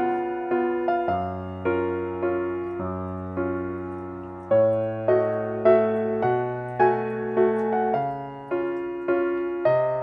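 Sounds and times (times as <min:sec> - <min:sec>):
soft electric piano chords: 0:00.0 - 0:10.0.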